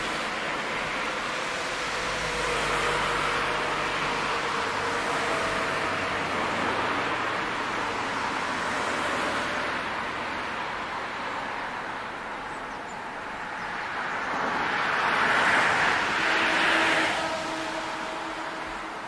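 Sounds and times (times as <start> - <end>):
diesel train rumbling past: 0.0 - 12.4, 13.3 - 19.0.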